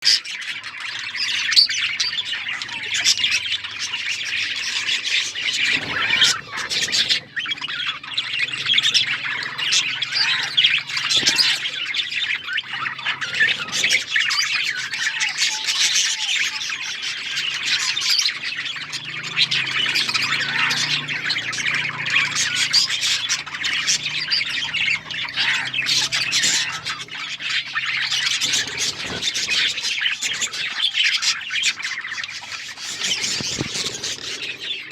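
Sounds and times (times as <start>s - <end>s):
budgerigars chirping and squawking: 0.0s - 34.9s.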